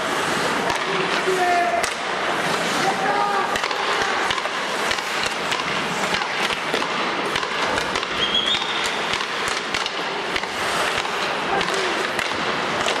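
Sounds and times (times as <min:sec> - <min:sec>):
skate blades scraping ice: 0:00.0 - 0:13.0
hockey sticks and puck clicking: 0:00.2 - 0:13.0.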